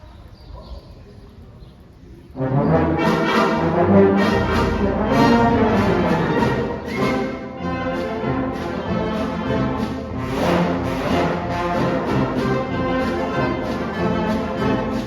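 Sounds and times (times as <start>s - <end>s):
concert band playing: 2.4s - 15.0s.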